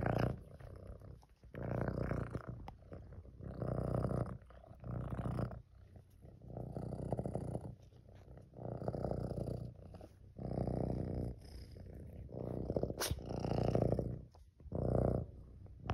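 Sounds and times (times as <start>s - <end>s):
kitten purring: 0.0s - 15.9s.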